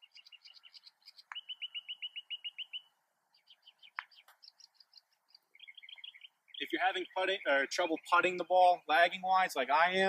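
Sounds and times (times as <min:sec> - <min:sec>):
bird trilling: 0:00.0 - 0:08.2
songbirds chirping: 0:00.0 - 0:10.0.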